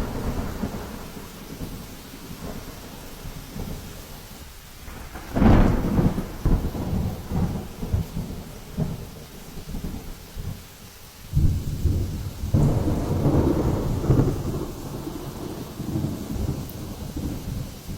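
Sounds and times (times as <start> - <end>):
storm wind and rain: 0.0 - 17.9.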